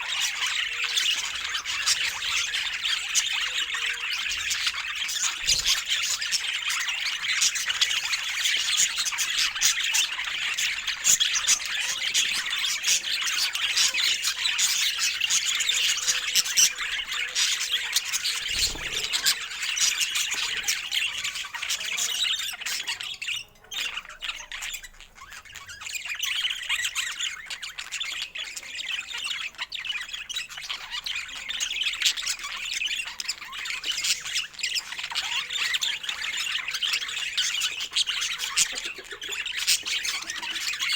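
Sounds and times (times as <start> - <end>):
budgerigars chattering and squawking: 0.0 - 40.9.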